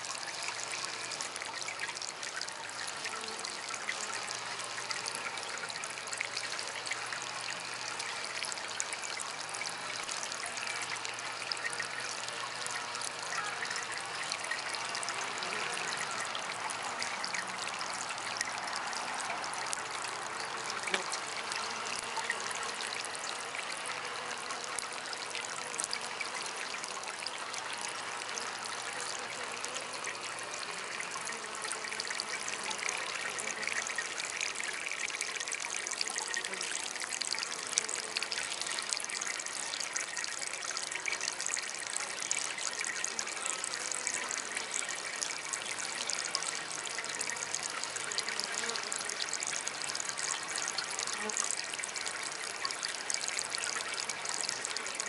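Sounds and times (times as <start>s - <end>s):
water trickling from fountain: 0.0s - 55.0s.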